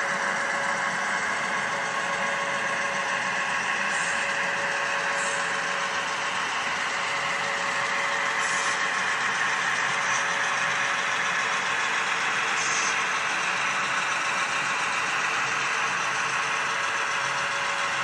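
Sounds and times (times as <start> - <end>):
model train mechanical hum: 0.0 - 18.0.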